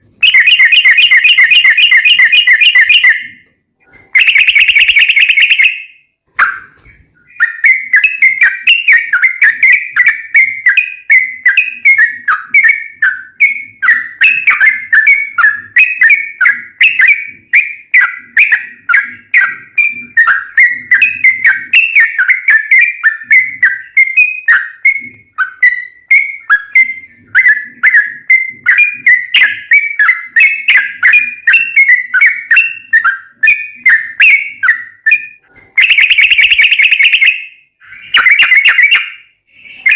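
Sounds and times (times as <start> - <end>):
bulbul chattering song: 0.2 - 3.4, 4.2 - 39.9.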